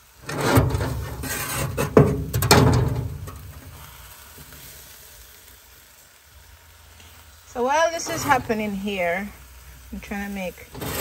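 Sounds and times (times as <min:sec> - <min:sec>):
sausages sizzling on a grill: 0:00.0 - 0:11.0.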